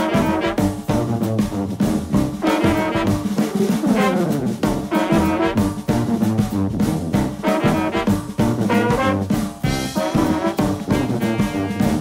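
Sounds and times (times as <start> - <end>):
jazzy brass horns: 0.0 - 12.0
steady drum beat: 0.0 - 12.0.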